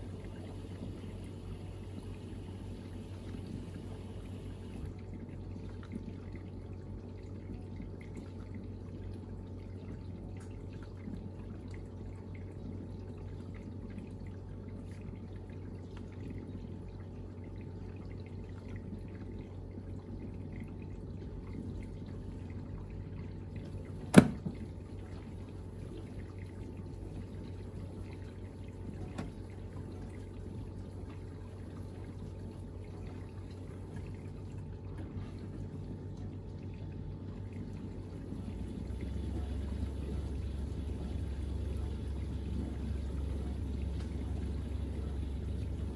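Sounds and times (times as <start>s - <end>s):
dishwasher pump humming: 0.0s - 45.9s.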